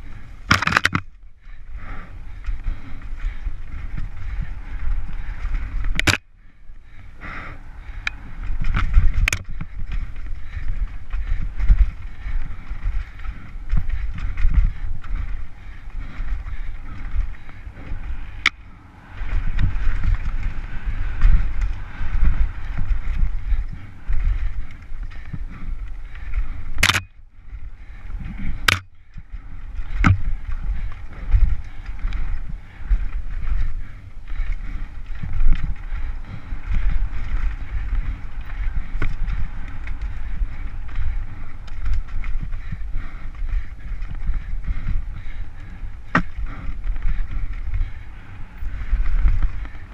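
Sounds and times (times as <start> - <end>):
bike rattling over rocks: 0.0 - 49.9
wind buffeting microphone: 0.0 - 49.9.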